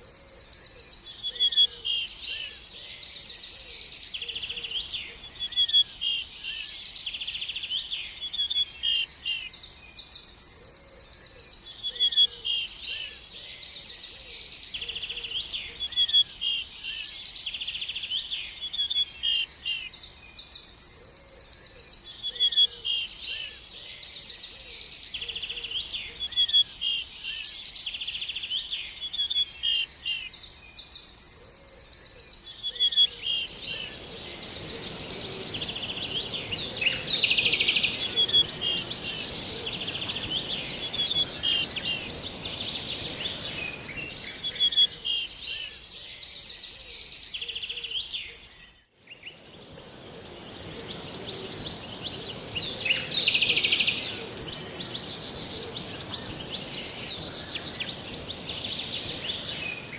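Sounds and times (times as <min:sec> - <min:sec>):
songbirds chirping and trilling: 0:09.0 - 0:59.9.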